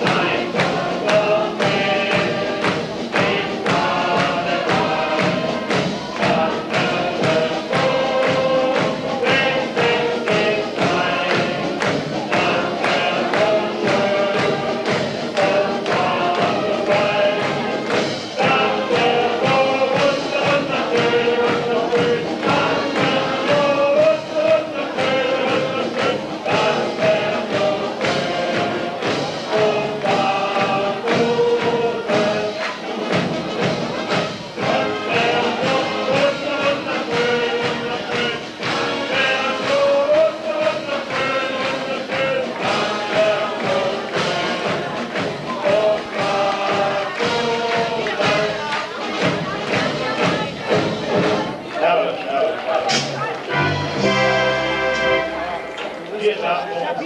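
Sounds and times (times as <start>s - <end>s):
live band music with steady beat: 0.0s - 51.7s, 52.7s - 56.1s.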